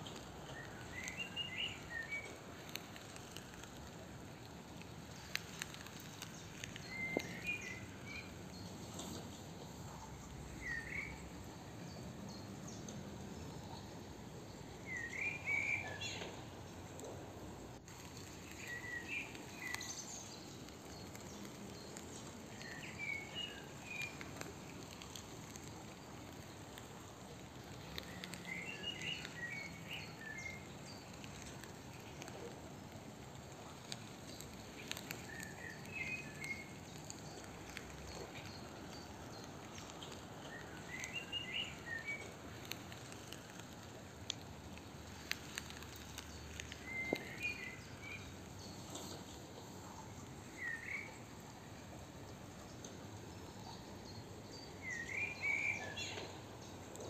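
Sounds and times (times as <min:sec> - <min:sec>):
songbird chirping: 0:00.0 - 0:57.0
steady outdoor hiss: 0:00.0 - 0:57.0.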